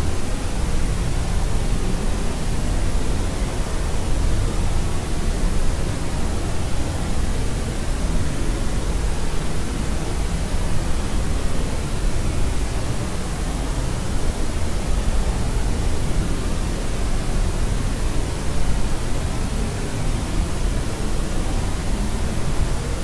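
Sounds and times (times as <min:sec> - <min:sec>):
steady white noise hiss: 0:00.0 - 0:23.0.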